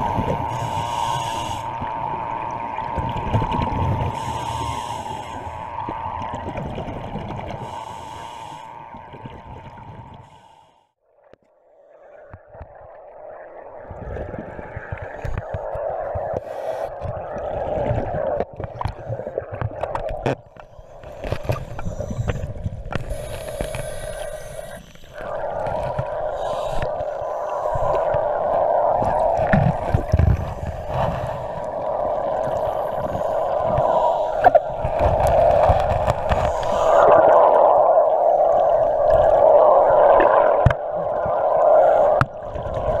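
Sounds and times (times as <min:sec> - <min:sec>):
muffled underwater rushing water: 0:00.0 - 0:43.0.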